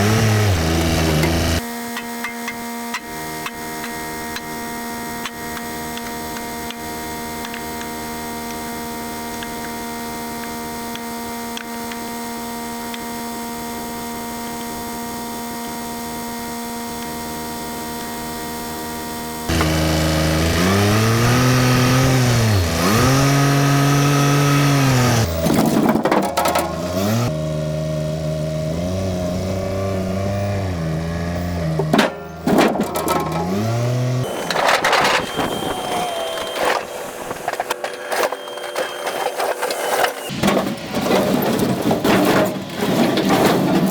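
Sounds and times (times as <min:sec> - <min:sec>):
tractor diesel engine working: 0:00.0 - 0:43.9.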